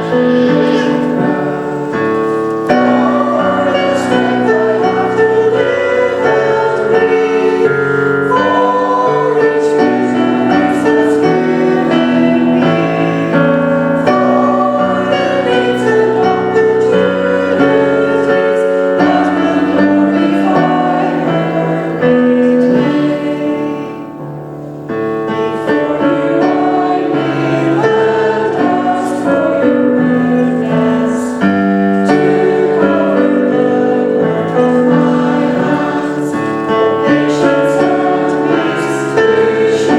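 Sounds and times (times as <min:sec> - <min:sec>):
church choir singing a hymn: 0:00.0 - 0:39.9
keyboard accompaniment: 0:00.0 - 0:39.9.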